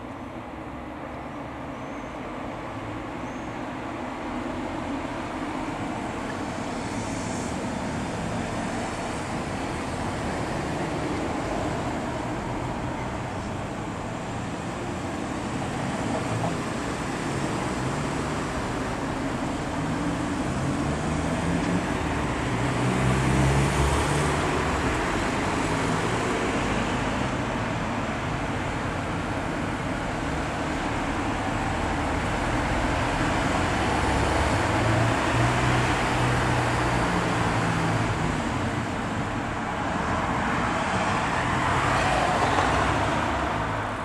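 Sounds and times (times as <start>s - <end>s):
distant road traffic hum: 0.0s - 44.0s.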